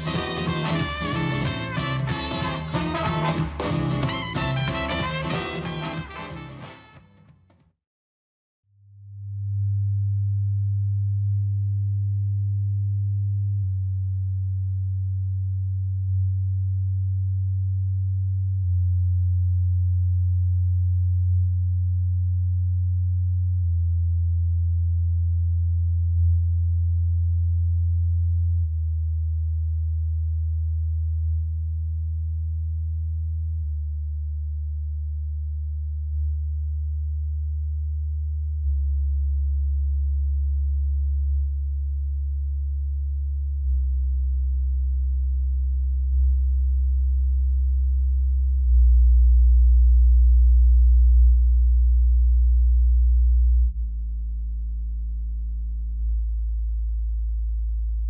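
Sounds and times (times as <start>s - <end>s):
low sine test tone: 8.7s - 58.0s.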